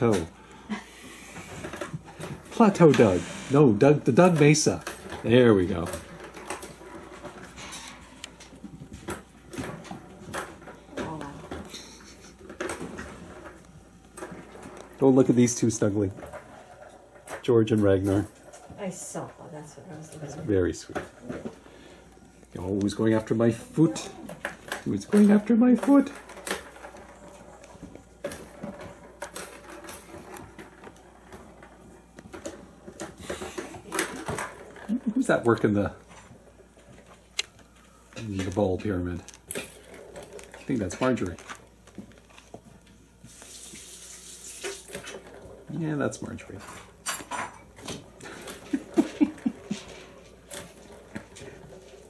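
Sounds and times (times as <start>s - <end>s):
plastic balls rattling in track: 1.3s - 42.9s, 43.5s - 52.0s.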